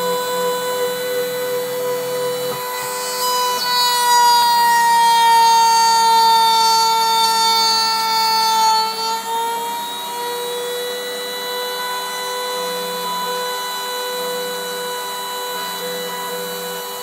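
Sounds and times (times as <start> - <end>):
rotary tool whining routing wood: 0.0 - 17.0.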